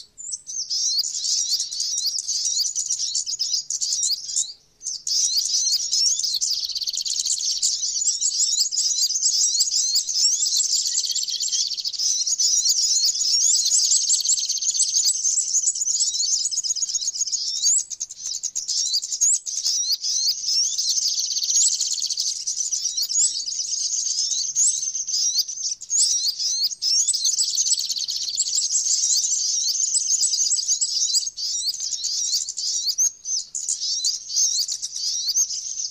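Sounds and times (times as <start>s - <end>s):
small songbirds chirping: 0.0s - 35.9s.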